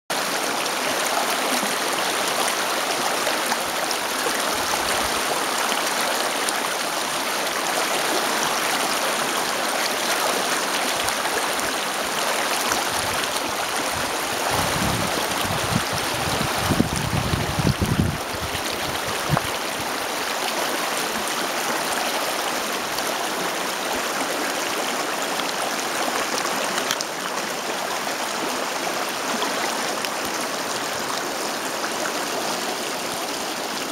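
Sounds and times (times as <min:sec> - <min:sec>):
stream water splashing: 0:00.1 - 0:33.9.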